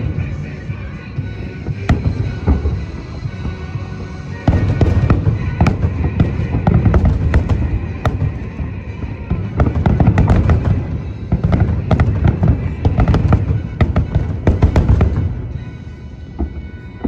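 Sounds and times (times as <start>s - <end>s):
fireworks cracking and booming: 0.0s - 17.0s
music playing: 0.0s - 17.0s
low rumble: 1.9s - 15.6s.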